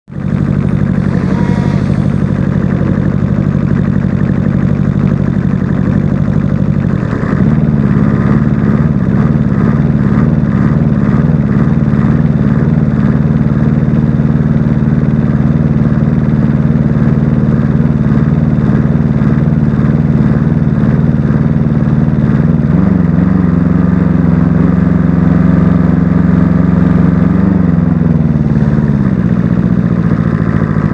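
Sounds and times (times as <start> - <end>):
engine idling roughly: 0.1 - 30.9.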